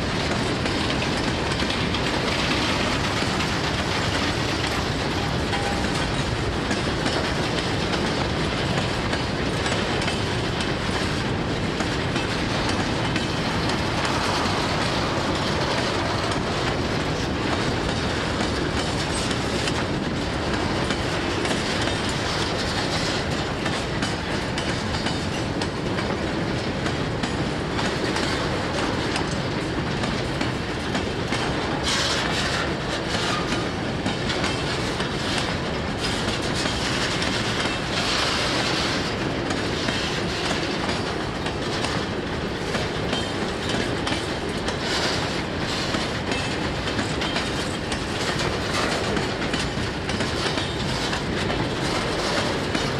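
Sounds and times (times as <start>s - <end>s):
freight train cars rolling: 0.0s - 52.9s
wheels clacking over rail joints: 0.0s - 52.9s.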